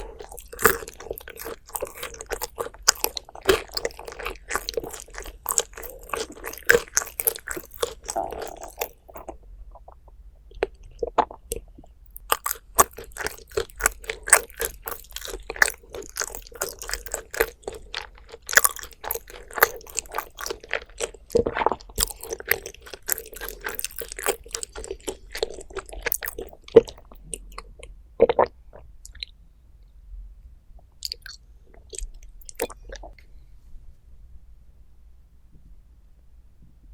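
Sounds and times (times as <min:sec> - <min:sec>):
crunching and chewing food: 0:00.0 - 0:29.4, 0:30.8 - 0:33.3.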